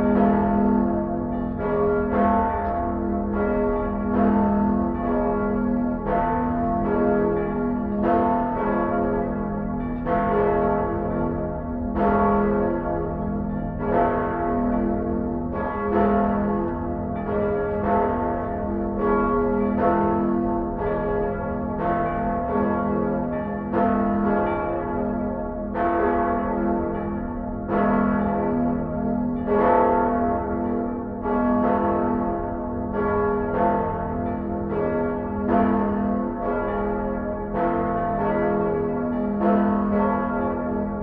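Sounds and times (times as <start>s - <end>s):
church bells ringing: 0.0s - 41.0s.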